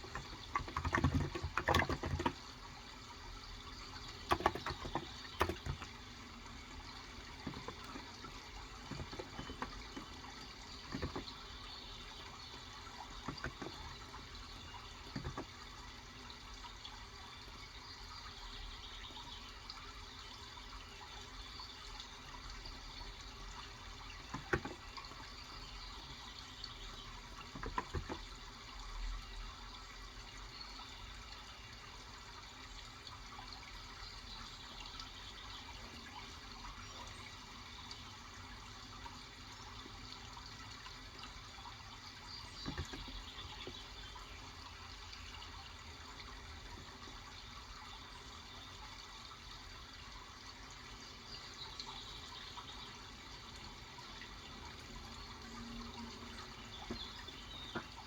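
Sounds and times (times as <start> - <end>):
birdsong chirps: 0.0 - 28.5, 33.2 - 58.0
running water: 0.0 - 58.0.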